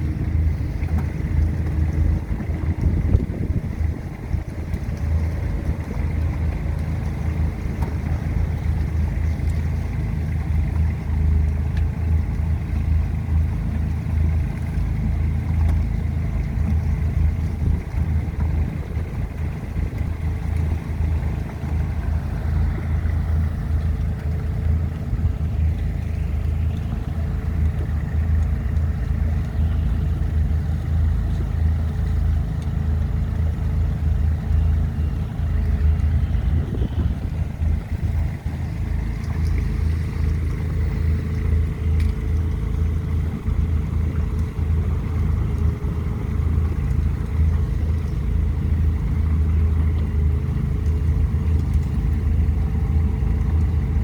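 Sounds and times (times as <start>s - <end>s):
harvester engine rumbling: 0.0s - 54.0s.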